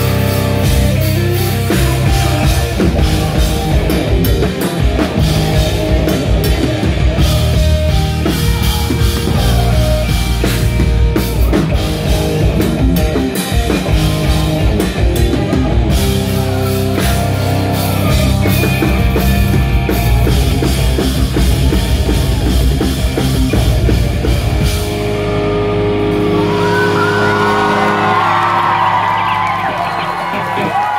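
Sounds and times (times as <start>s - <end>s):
distorted guitars and bass: 0.0s - 30.9s
drum kit pounding: 0.0s - 30.9s.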